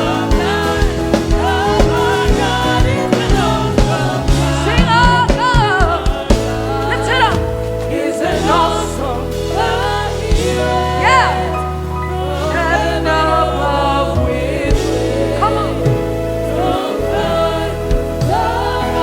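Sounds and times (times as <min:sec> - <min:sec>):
gospel band playing: 0:00.0 - 0:19.0
person singing: 0:00.0 - 0:19.0.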